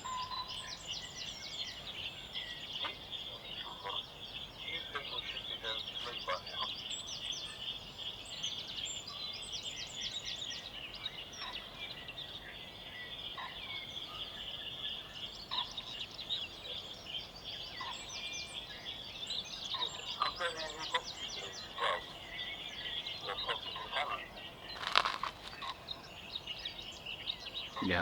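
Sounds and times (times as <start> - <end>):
songbirds chirping and trilling: 0.0 - 28.0.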